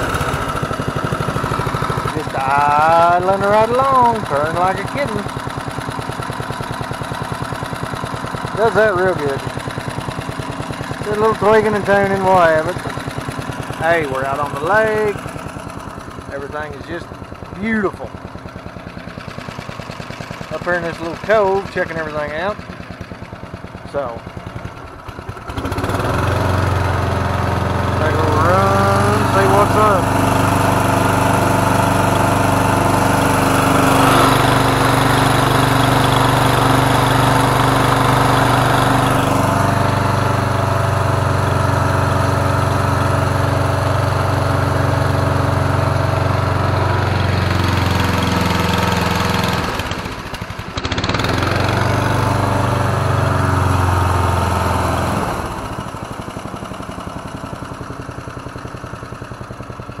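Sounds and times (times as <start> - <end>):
boat motor running: 0.0 - 60.0.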